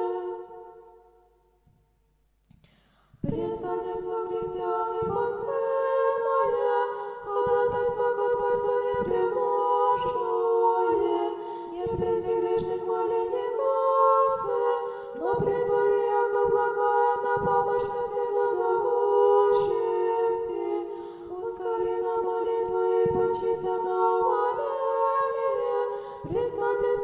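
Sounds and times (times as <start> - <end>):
choir chanting a cappella: 0.0 - 1.1, 3.2 - 27.0.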